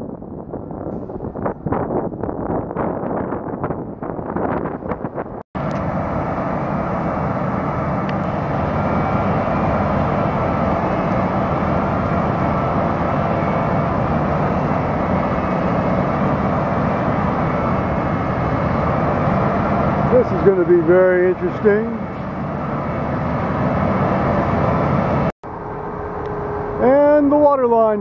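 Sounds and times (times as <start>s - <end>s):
heavy diesel machinery running: 0.1s - 27.7s.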